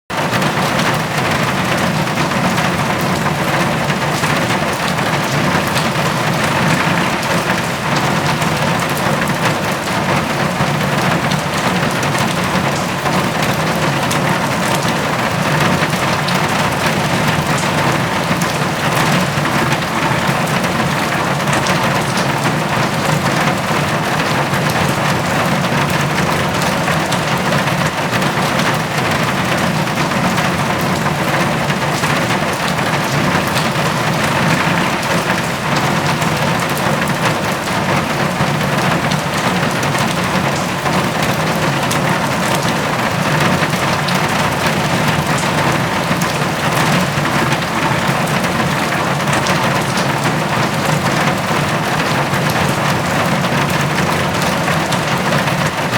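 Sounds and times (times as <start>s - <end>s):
rain drumming on a tin roof: 0.1s - 55.9s.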